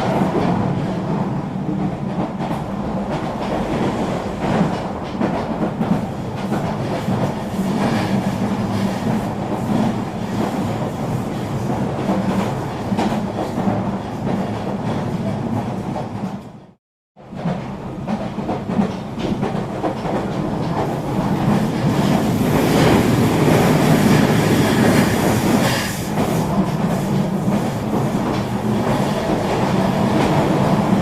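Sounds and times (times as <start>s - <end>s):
train rumbling at speed: 0.0s - 31.0s.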